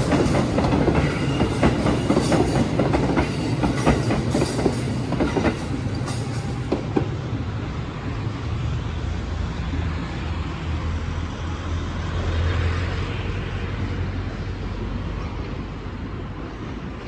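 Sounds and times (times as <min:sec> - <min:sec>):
city traffic noise: 0:00.0 - 0:17.0
train rumble: 0:00.0 - 0:17.0.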